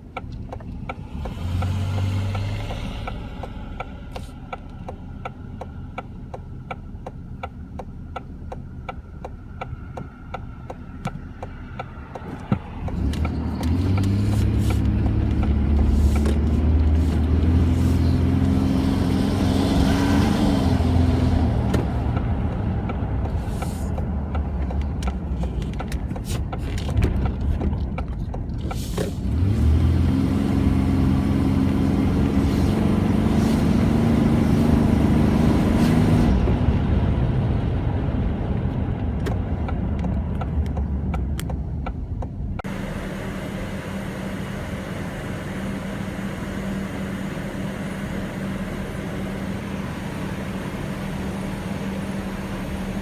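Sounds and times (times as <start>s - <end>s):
car engine revving: 0.6s - 27.6s, 28.6s - 53.0s.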